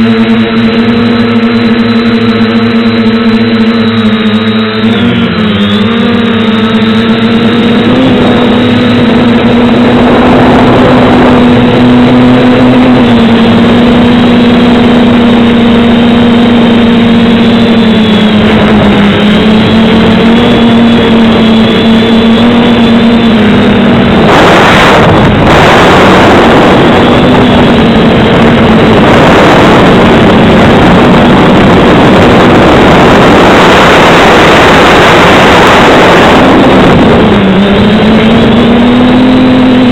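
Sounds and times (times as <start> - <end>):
buzzing propeller motor hum: 0.0 - 39.9
wind rushing over microphone: 0.0 - 39.9.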